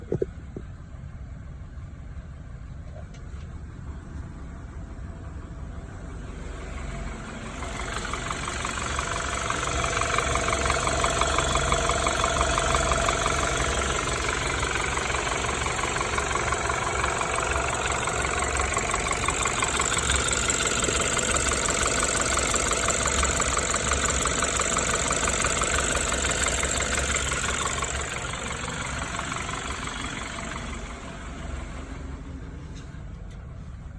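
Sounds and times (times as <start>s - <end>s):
car engine running with rattle: 0.0s - 33.9s.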